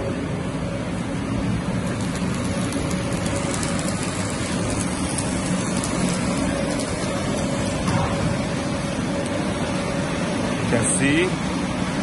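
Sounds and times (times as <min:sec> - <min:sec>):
factory machinery hum: 0:00.0 - 0:12.0.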